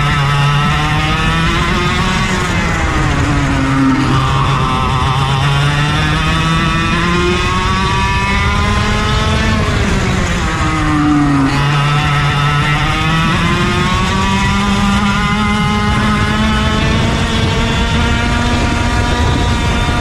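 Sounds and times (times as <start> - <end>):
racing kart engines: 0.0 - 20.0.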